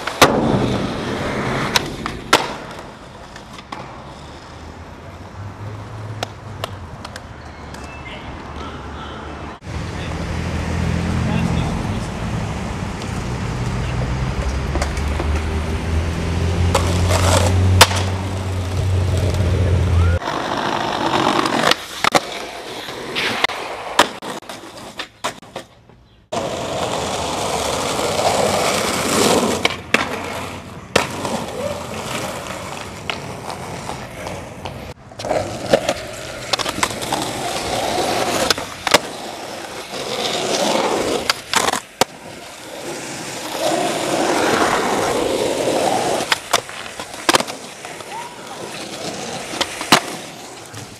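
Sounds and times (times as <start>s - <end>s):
skateboard clacks: 0.0s - 4.7s, 6.1s - 8.8s, 12.9s - 15.6s, 16.7s - 19.5s, 20.2s - 50.9s
skateboard wheels rolling on concrete: 0.0s - 50.9s.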